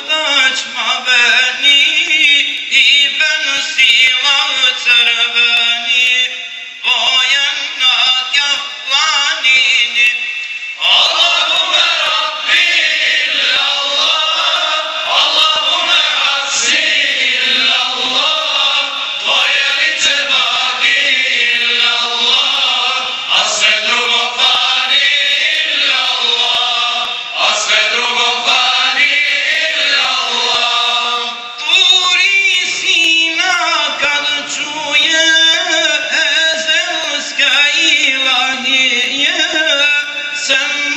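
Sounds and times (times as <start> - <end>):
men's choir singing a hymn: 0.0 - 40.9.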